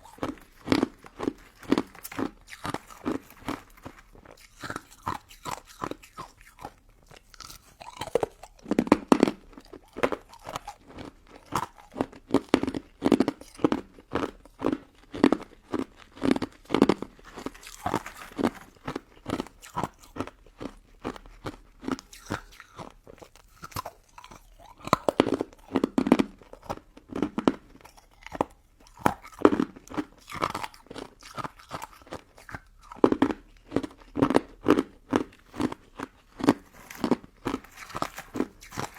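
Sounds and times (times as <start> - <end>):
crunchy chewing and biting: 0.0 - 38.9.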